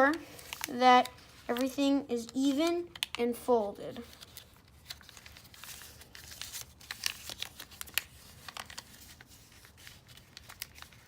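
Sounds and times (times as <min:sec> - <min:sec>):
paper being folded and creased: 0:00.0 - 0:11.0.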